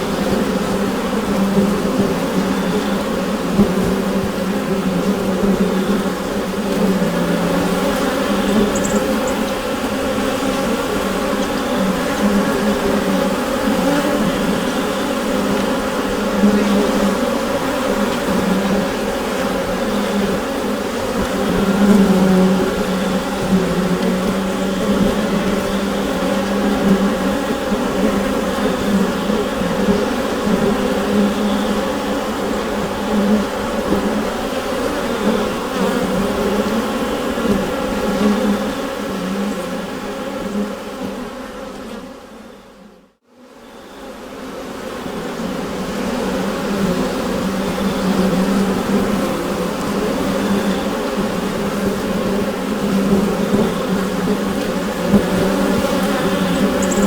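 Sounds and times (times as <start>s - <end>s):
bees humming in a hive: 0.0s - 57.0s.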